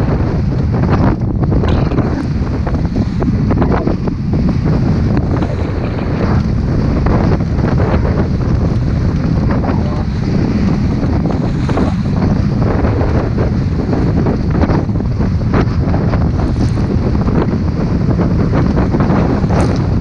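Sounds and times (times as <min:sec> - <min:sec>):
boat motor running: 0:00.0 - 0:20.0
water slapping against hull: 0:00.0 - 0:20.0
wind buffeting microphone: 0:00.0 - 0:20.0.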